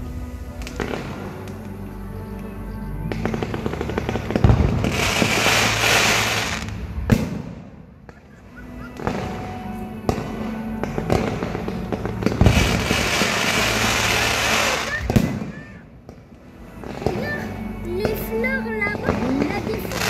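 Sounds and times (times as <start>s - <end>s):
fireworks crackling and banging: 0.0s - 1.8s, 3.0s - 20.0s.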